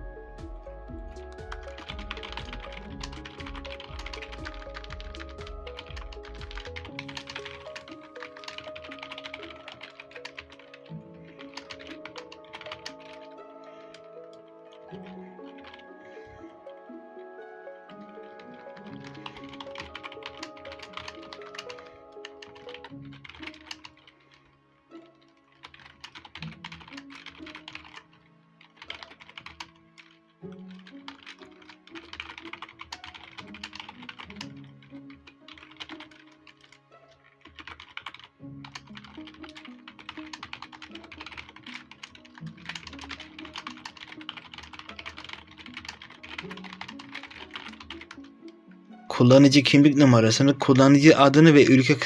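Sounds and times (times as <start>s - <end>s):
quiet background music: 0.0s - 52.0s
typing on computer keyboard: 1.3s - 15.9s, 18.0s - 24.3s, 25.3s - 36.8s, 37.4s - 48.5s.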